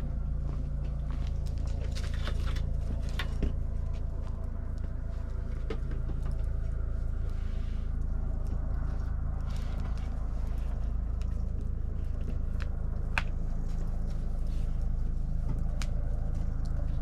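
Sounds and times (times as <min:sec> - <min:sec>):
campfire crackling and popping: 0:01.2 - 0:17.0.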